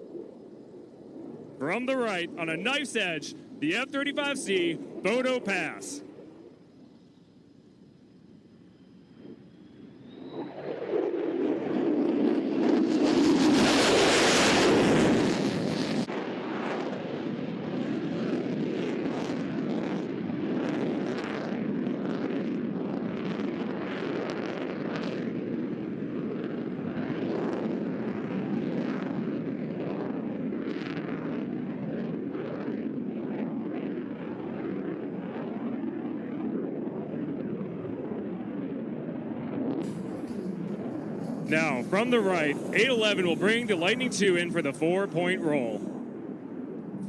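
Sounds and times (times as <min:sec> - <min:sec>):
jet engine roar: 0:00.0 - 0:47.0.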